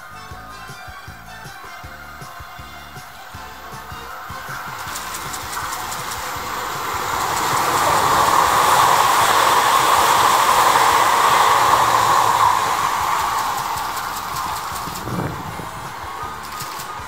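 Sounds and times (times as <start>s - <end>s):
electric train running past: 1.6s - 17.0s.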